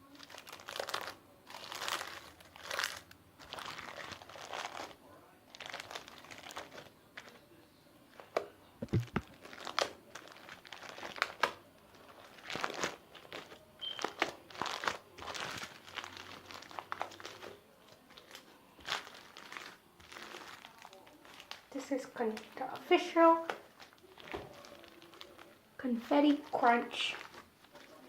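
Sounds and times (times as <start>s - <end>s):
slime squeezed crunching and crackling: 0.0s - 7.3s, 9.0s - 25.6s.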